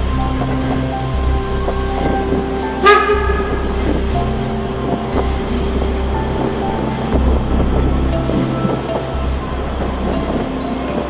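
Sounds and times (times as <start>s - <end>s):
railway carriage wheels rumbling: 0.0s - 11.0s.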